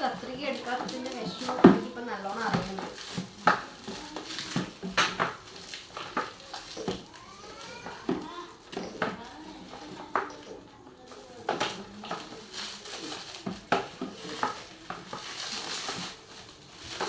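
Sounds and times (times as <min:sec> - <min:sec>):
packaging rustling: 0:00.0 - 0:17.0
plastic parts clicking and knocking: 0:00.0 - 0:17.0.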